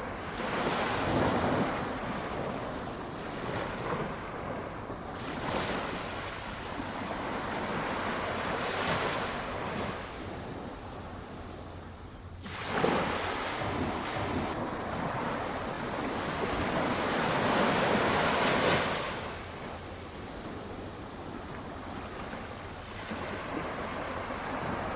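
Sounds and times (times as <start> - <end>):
small waves washing ashore: 0.0 - 24.9.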